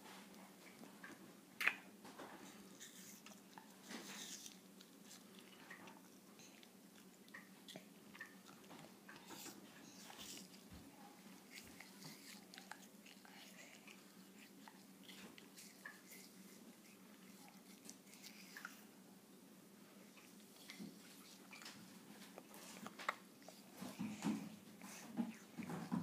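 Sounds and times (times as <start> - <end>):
baby chewing with wet mouth clicks: 0.3 - 18.9, 20.1 - 26.0.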